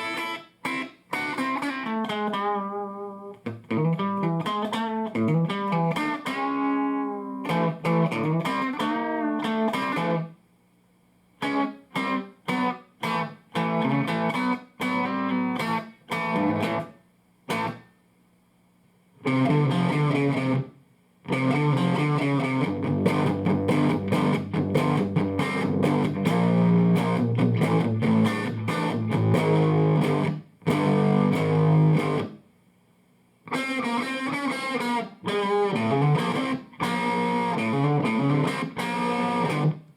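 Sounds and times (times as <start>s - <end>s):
electric guitar chords: 0.0s - 10.3s, 11.4s - 17.8s, 19.2s - 32.4s, 33.4s - 39.9s.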